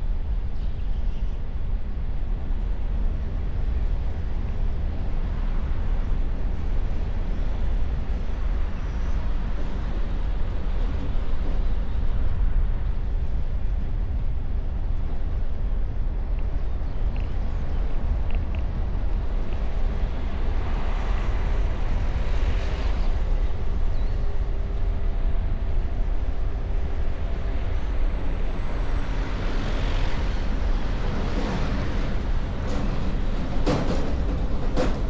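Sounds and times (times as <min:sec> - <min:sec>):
wind and road noise rumble: 0:00.0 - 0:35.0.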